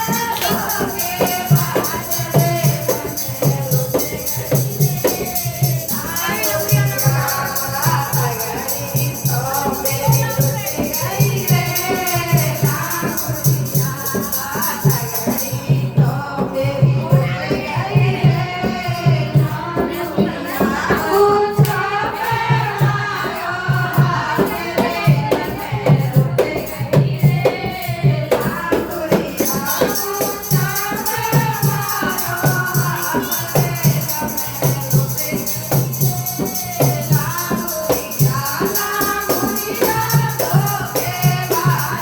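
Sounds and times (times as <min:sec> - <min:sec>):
jingling percussion: 0:00.0 - 0:42.0
person singing folk song: 0:00.0 - 0:42.0
steady drum beat: 0:00.0 - 0:42.0.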